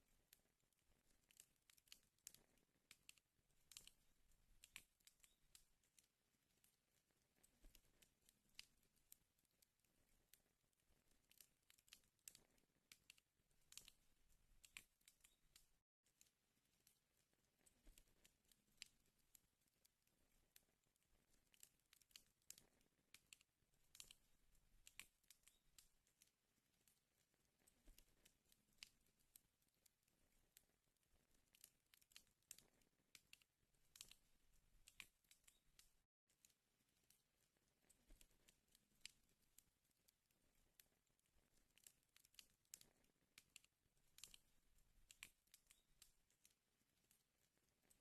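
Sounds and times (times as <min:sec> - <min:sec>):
wood fire crackling faintly: 0:00.0 - 0:48.0.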